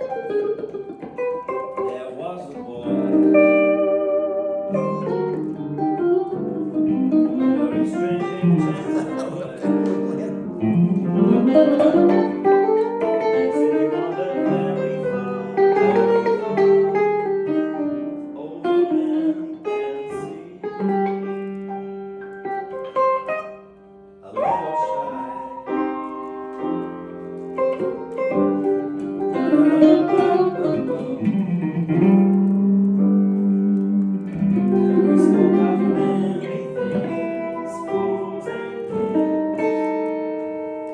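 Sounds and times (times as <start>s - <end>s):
guitar-led instrumental music: 0.0s - 40.9s.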